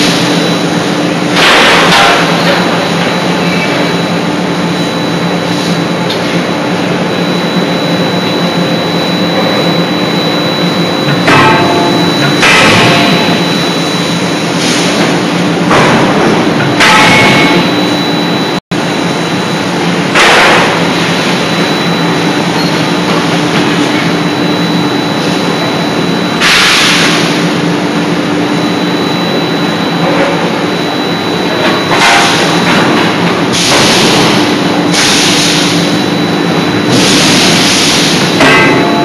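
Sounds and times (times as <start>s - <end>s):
machinery droning with high whine: 0.0s - 39.0s.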